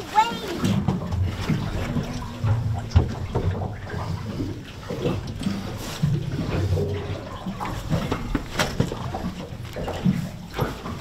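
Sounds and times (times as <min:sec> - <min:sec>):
wet sloshing and scraping: 0:00.0 - 0:11.0.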